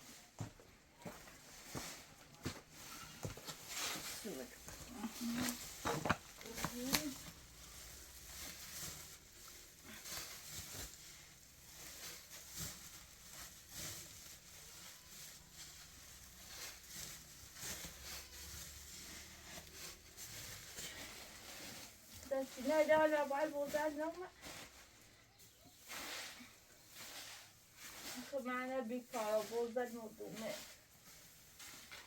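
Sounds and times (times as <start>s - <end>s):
rustling: 0.0s - 32.0s.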